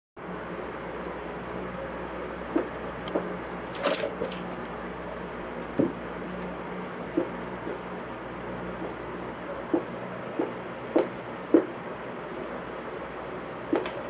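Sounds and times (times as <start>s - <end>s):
steady low hum: 0.2s - 14.0s.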